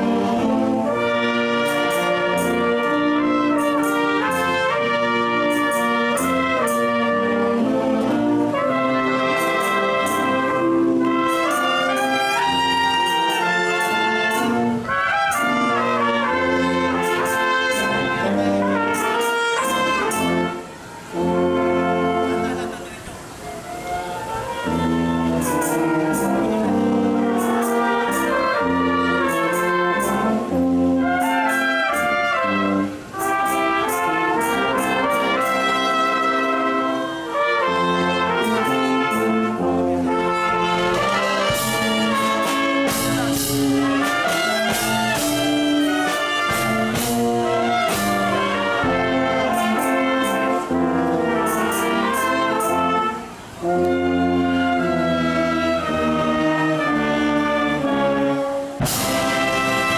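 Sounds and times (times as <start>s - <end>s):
percussion strikes: 0.0s - 22.0s, 24.5s - 36.7s, 37.7s - 54.1s, 58.8s - 59.9s
wind band playing: 0.0s - 59.9s.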